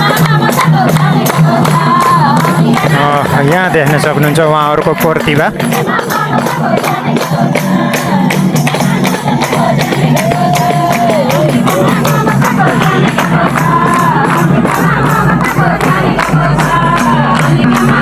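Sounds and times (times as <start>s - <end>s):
jingling tambourine-like strokes: 0.0s - 18.0s
quick percussion beat: 0.0s - 18.0s.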